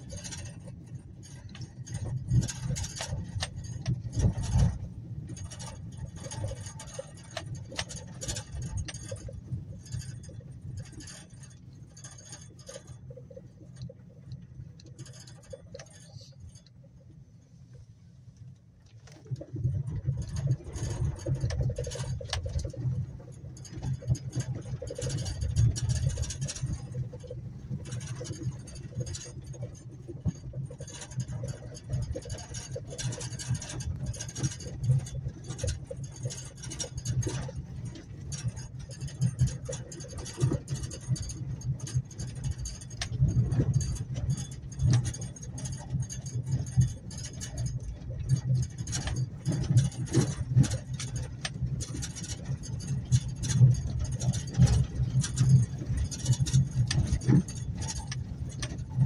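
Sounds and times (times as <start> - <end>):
stones and fittings rattling: 0.0 - 16.9, 19.0 - 59.0
engine and tyre rumble: 0.0 - 59.0.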